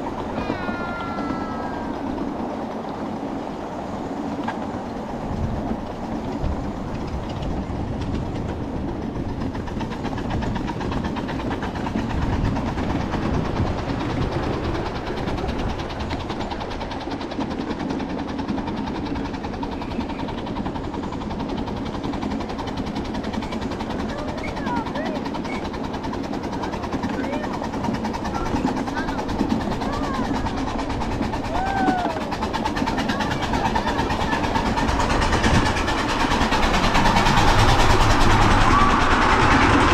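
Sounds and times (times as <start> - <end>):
rapid clicking of wheels: 0.0 - 39.9
train cars rumbling on track: 0.0 - 39.9.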